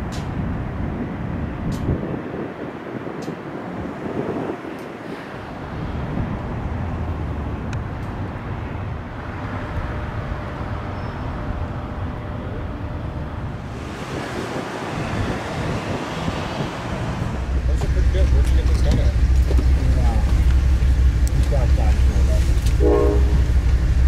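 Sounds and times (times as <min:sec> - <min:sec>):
outdoor rumble: 0:00.0 - 0:24.0
wind buffeting microphone: 0:00.0 - 0:24.0.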